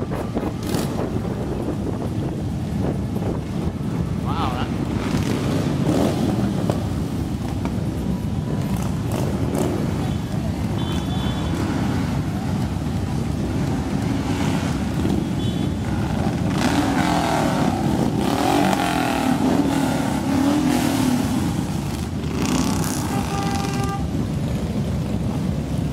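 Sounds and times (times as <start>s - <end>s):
motorcycles riding past: 0.0s - 25.9s.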